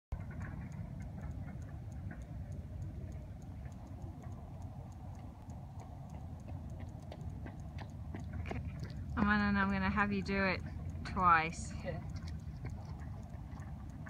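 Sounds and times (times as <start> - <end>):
faint ticks: 0.1 - 14.0.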